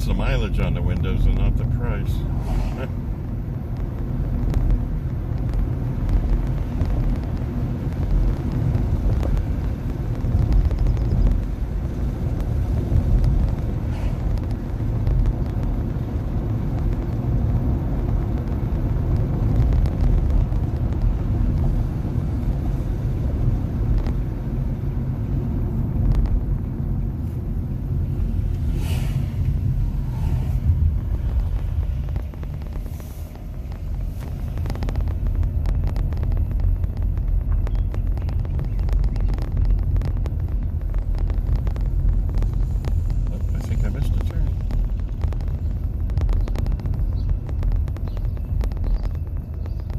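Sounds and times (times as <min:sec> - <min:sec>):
road and tyre rumble: 0:00.0 - 0:49.9.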